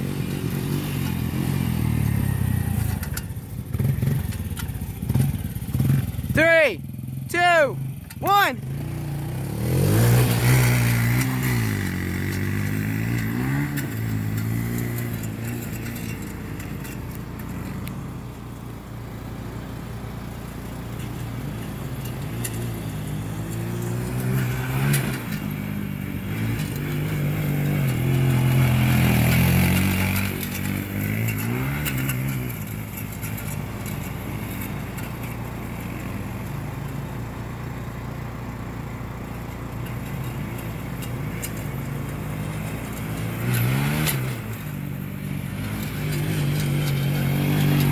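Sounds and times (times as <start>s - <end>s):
off-road engines revving: 0.0s - 47.9s.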